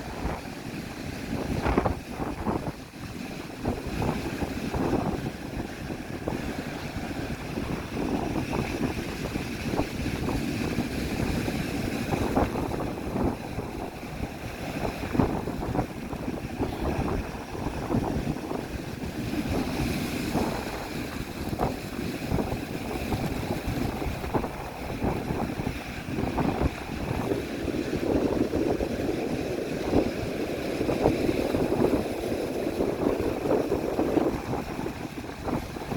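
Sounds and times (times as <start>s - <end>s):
sea waves breaking: 0.0s - 35.9s
wind buffeting microphone: 0.0s - 35.9s.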